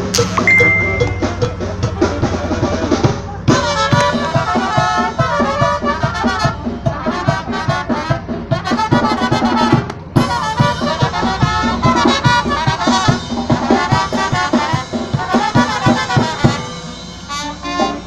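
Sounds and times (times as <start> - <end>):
band music: 0.0 - 18.0
steady drum beat: 0.0 - 18.0.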